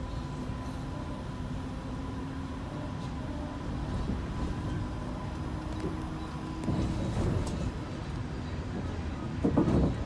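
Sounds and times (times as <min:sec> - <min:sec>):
tram wheels rumbling on rail: 0:00.0 - 0:10.0.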